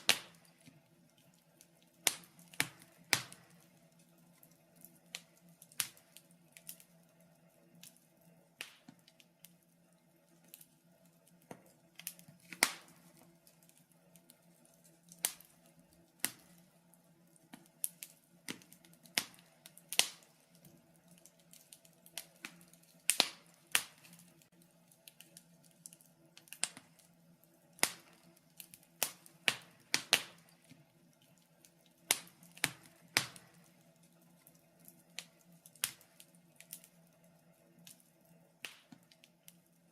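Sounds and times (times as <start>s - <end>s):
sharp pops and snaps of fire: 0.0s - 39.9s
wood fire crackling: 0.0s - 39.9s.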